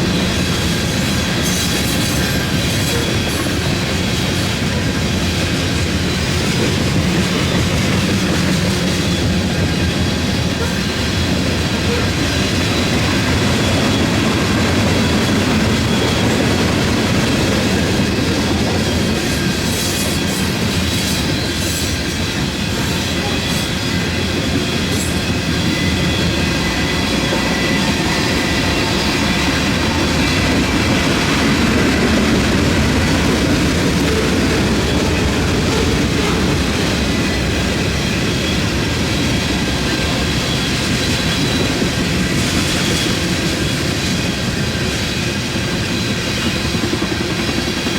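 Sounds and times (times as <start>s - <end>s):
freight train wheels rumbling: 0.0s - 47.9s
high wheel squeals: 0.1s - 16.4s, 18.8s - 46.7s.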